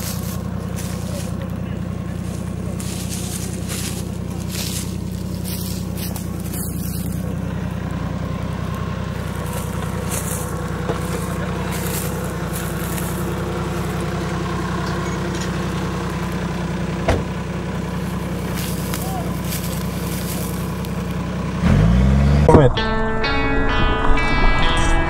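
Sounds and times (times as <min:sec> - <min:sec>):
car engine running steadily: 0:00.0 - 0:22.8.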